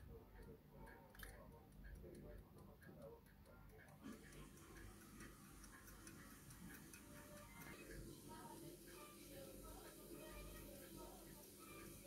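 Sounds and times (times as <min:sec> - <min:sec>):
pocket watch ticking: 0:00.0 - 0:11.2.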